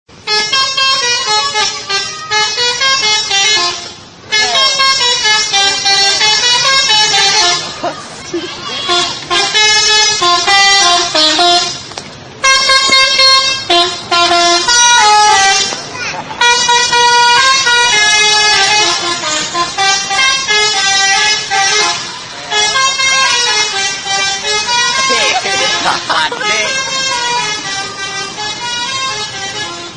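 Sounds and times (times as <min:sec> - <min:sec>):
multi-tone musical bus horn: 0:00.1 - 0:29.9.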